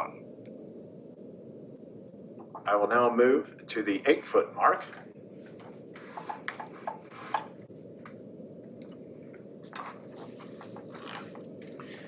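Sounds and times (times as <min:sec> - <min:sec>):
low hum of room noise: 0:00.0 - 0:12.0.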